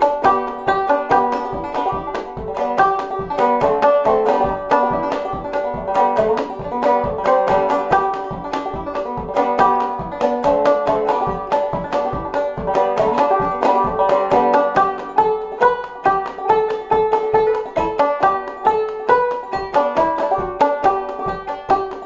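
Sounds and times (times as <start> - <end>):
banjo playing a reel: 0.0 - 22.0.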